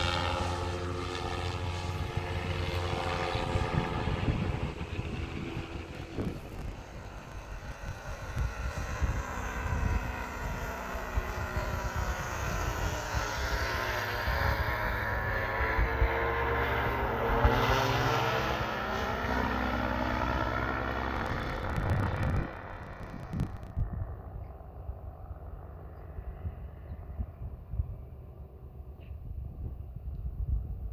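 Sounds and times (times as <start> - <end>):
paramotor engine droning: 0.0 - 30.9
wind buffeting microphone: 0.2 - 30.9.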